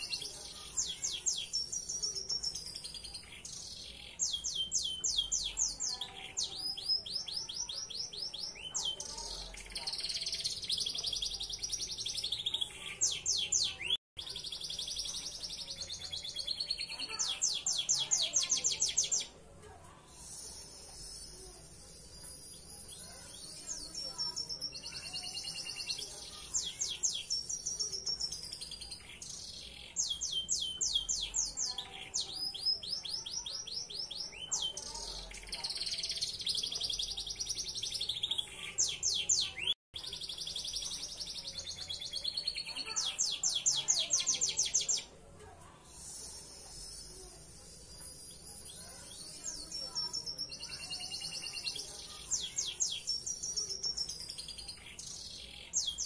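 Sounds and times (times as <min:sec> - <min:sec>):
canary singing trills: 0:00.0 - 0:19.4, 0:20.1 - 0:56.0.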